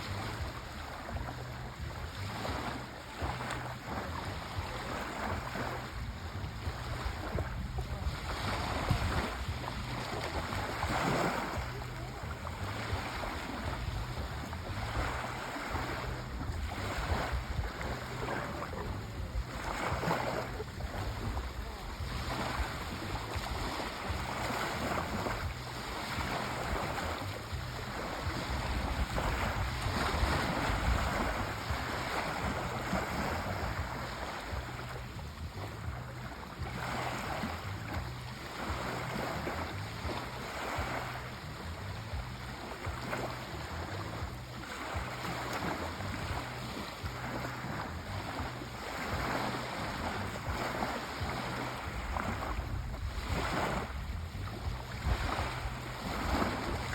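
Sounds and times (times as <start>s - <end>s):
sea waves washing in: 0.0s - 56.9s.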